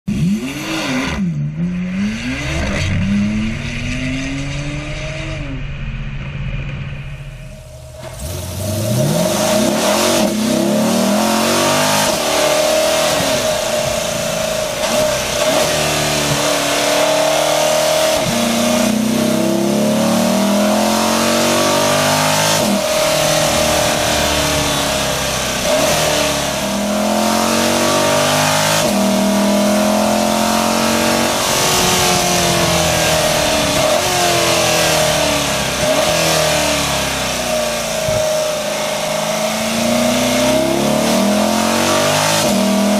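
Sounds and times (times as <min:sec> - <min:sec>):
car engine accelerating: 0:00.0 - 0:42.9
steady whine: 0:01.4 - 0:42.9.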